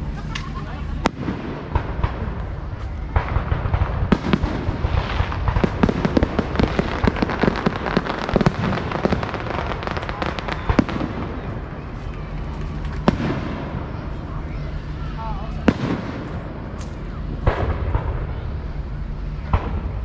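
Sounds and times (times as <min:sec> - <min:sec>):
fireworks cracking and popping: 0:00.0 - 0:20.0.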